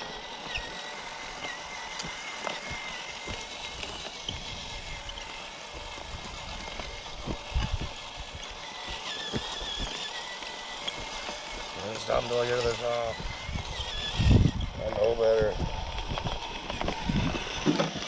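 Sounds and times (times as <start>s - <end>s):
grass rustling: 0.0s - 18.0s
toy truck motor whining: 0.0s - 18.0s.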